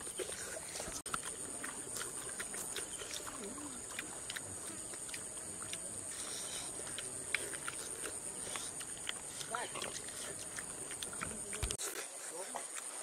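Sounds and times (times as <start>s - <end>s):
wet chewing and lip smacks: 0.0s - 13.0s.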